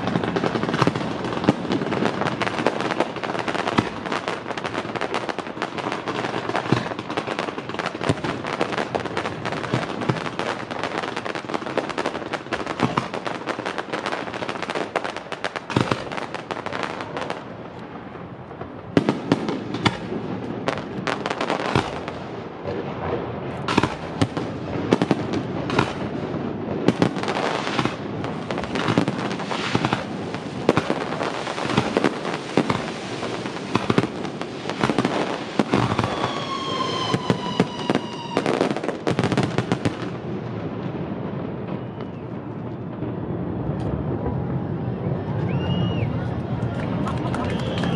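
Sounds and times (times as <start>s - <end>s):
fireworks crackling: 0.0s - 47.9s.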